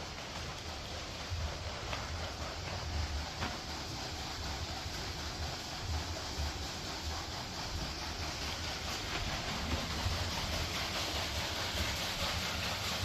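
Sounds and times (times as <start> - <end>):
falling water rushing: 0.0 - 13.0
water wheel turning: 0.0 - 13.0.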